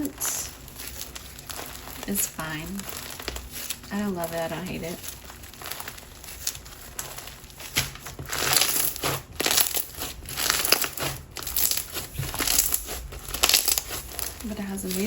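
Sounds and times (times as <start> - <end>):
slime squished crunchy crackles: 0.0 - 15.0.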